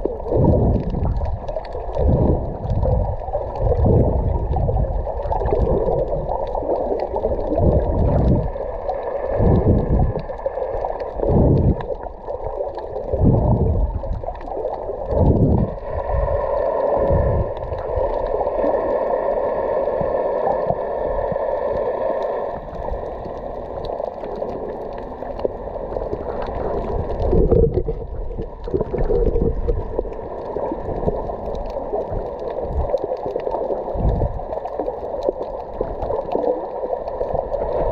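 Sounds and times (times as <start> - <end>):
muffled underwater water surging: 0.0 - 37.9.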